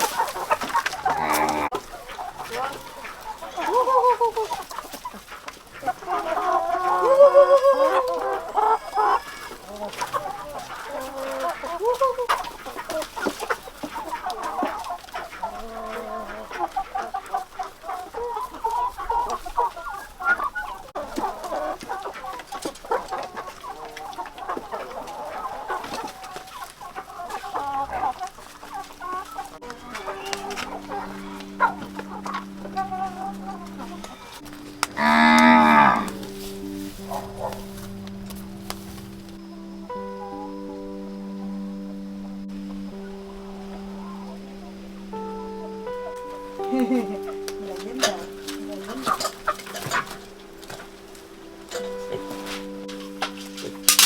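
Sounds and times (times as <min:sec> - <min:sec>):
chicken drawn-out call: 0:00.0 - 0:40.7, 0:42.6 - 0:52.8
chickens clucking: 0:00.0 - 0:54.0.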